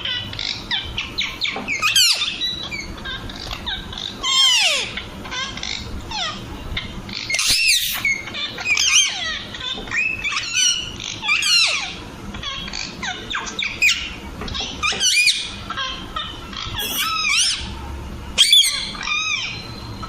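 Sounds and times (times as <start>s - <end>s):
parakeet calling: 0.0s - 17.8s, 18.4s - 20.0s.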